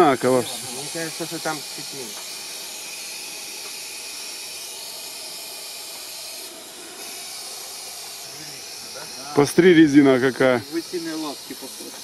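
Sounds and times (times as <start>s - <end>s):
air hissing at tyre valve: 0.0s - 12.0s.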